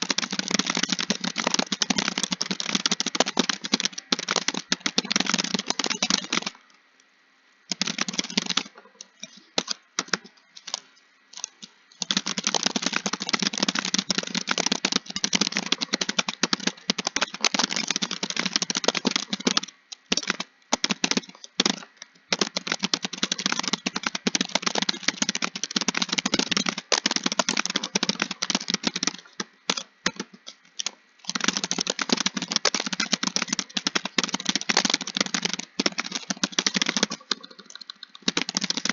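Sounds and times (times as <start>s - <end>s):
fast typing on computer keyboard: 0.0s - 6.6s, 7.7s - 38.9s.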